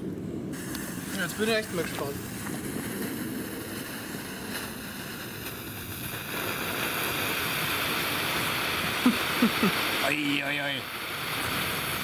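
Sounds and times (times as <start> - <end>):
flare hissing loudly: 0.0 - 12.0
fuse burning with hiss: 0.0 - 12.0.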